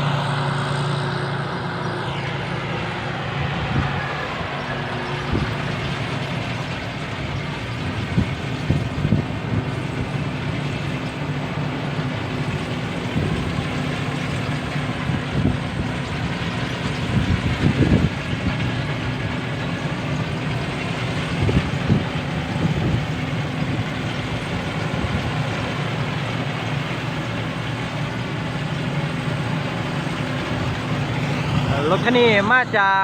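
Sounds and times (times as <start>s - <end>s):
diesel engine under load: 0.0s - 33.0s
threshing machinery: 0.0s - 33.0s.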